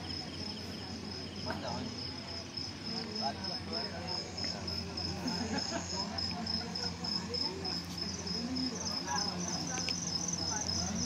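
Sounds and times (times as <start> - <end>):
faint distant voices: 0.0 - 11.0
insects chirping: 0.0 - 11.0.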